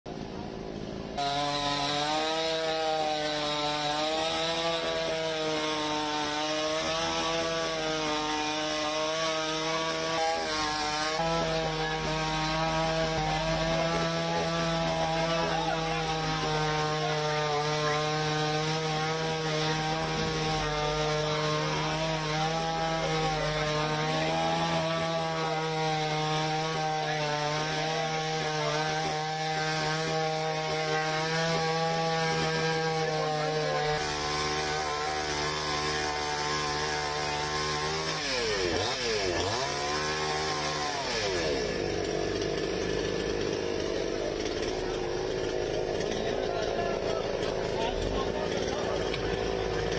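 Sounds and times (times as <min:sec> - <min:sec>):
chainsaw cutting tree trunk: 0:00.1 - 0:49.9.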